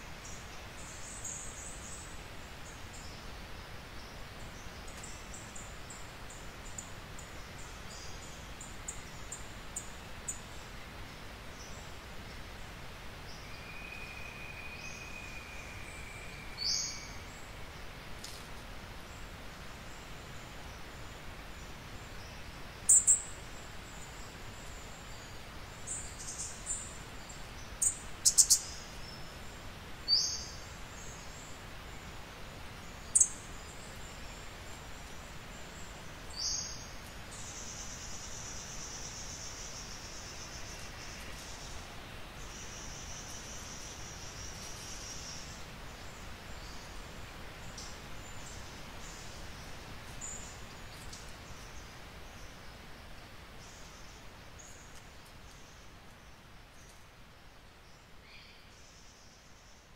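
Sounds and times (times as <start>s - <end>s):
faint hiss: 0.0s - 59.9s.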